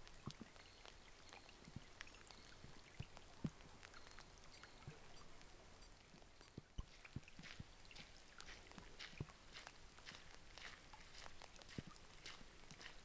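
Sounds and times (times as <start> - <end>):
rain drops on still water: 0.0 - 13.0.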